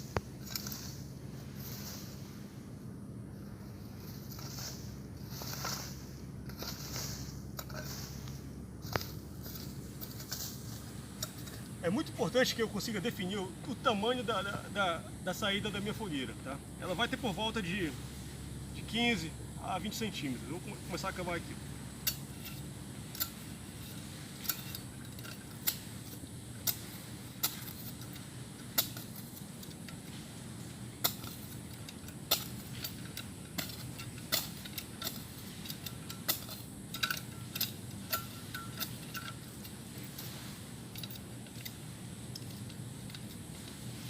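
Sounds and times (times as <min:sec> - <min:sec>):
hand tool digging soil: 0:00.0 - 0:02.4, 0:03.8 - 0:44.0.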